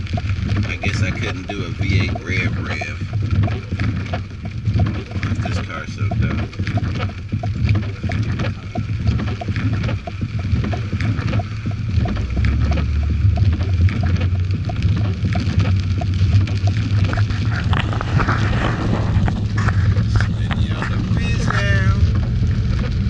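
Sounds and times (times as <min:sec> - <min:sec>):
car engine and tyre hum: 0:00.0 - 0:23.0
faint regular ticking: 0:00.0 - 0:23.0
rain on car: 0:00.0 - 0:23.0.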